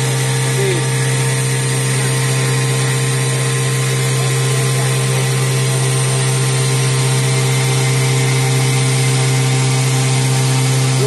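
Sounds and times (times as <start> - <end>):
coolant water hissing: 0.0 - 11.0
grinding spindle humming: 0.0 - 11.0.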